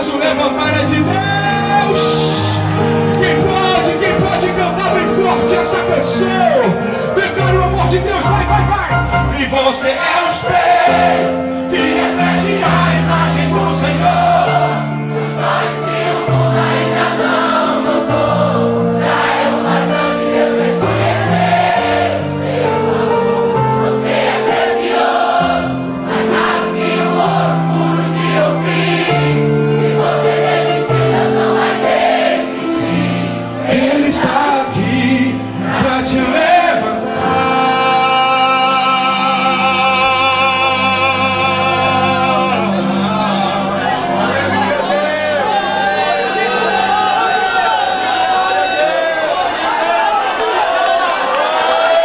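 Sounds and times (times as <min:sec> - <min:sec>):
gospel band with keyboard and bass: 0:00.0 - 0:52.0
many voices singing together: 0:09.7 - 0:52.0.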